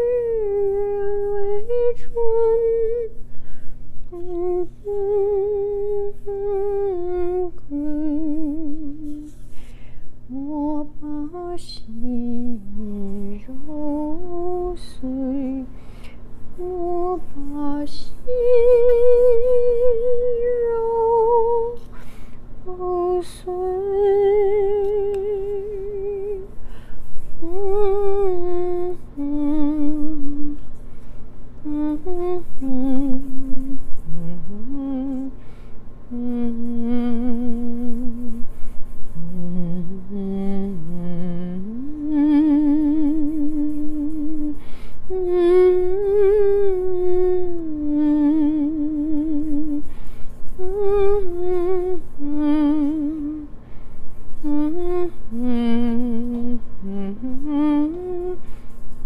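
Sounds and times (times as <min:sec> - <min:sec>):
woman humming: 0:00.0 - 0:03.3, 0:04.0 - 0:09.4, 0:10.3 - 0:15.7, 0:16.6 - 0:21.9, 0:22.6 - 0:30.6, 0:31.6 - 0:35.4, 0:36.1 - 0:53.5, 0:54.4 - 0:59.0.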